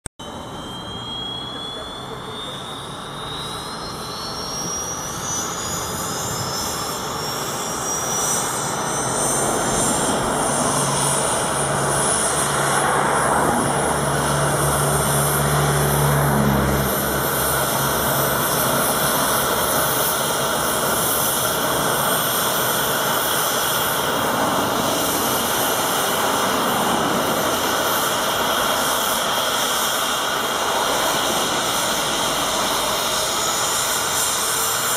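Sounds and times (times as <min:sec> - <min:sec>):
turbine engine whine: 0:00.1 - 0:34.9
helicopter rotor rushing: 0:00.2 - 0:34.9.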